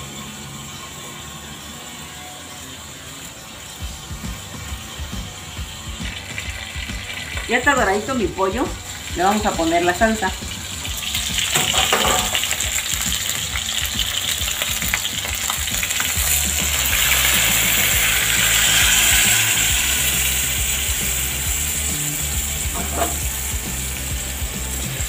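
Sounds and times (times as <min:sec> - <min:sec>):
chicken frying in hot oil: 0:00.0 - 0:25.0
sauce sizzling in pan: 0:00.0 - 0:25.0.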